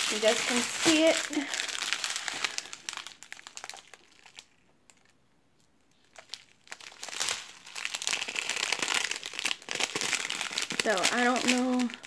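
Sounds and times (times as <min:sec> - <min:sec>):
plastic bags crinkling: 0:00.0 - 0:05.2, 0:05.9 - 0:12.0.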